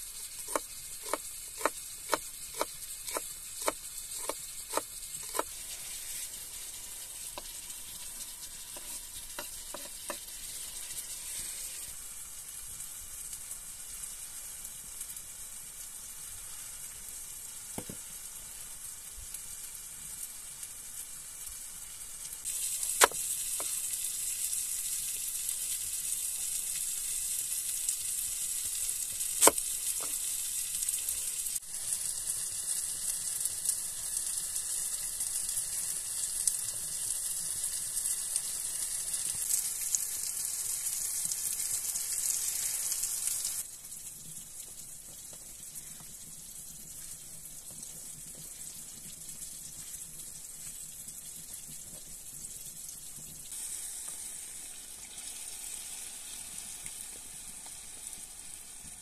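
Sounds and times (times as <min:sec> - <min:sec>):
vegetables sizzling in a frying pan: 0:00.0 - 0:59.0.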